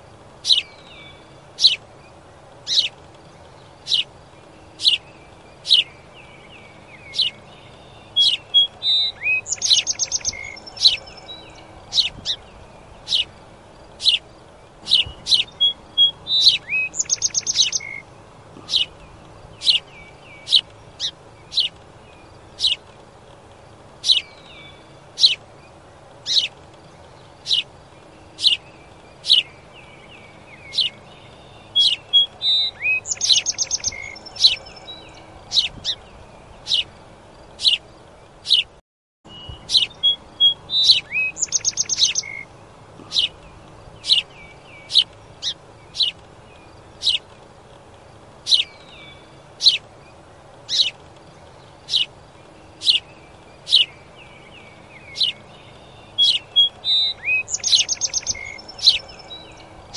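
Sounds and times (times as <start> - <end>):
sparrow chirping: 0.4 - 22.9, 23.8 - 47.4, 48.1 - 59.9.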